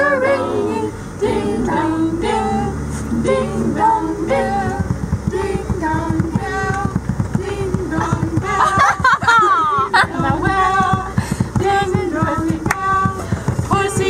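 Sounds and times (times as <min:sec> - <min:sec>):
van engine and road noise: 0:00.0 - 0:14.0
women and girls singing: 0:00.0 - 0:14.0.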